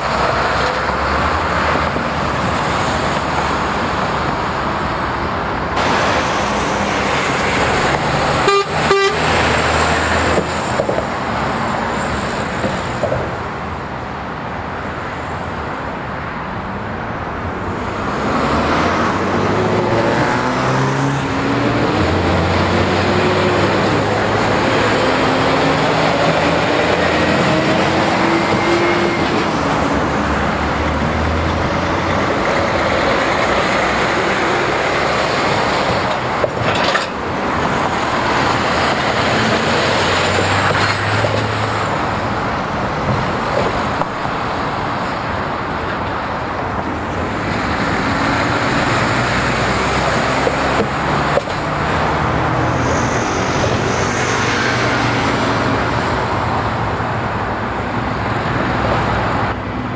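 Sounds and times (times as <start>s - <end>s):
lorry diesel engines passing: 0.0s - 59.9s
tyre and traffic noise: 0.0s - 59.9s.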